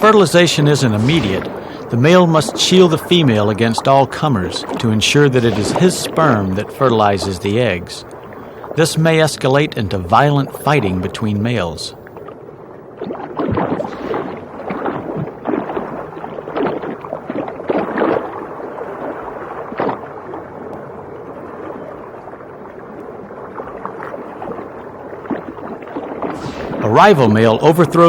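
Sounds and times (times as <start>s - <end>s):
underwater swirling and gurgling: 0.0s - 28.0s.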